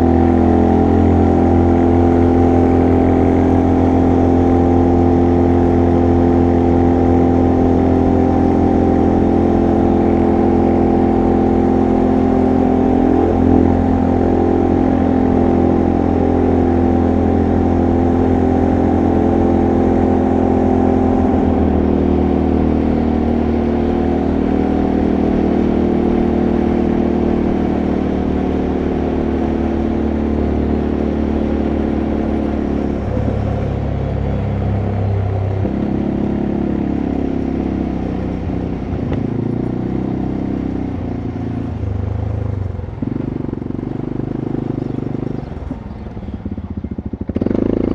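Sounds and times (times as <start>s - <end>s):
quad bike engine running: 0.0s - 47.9s.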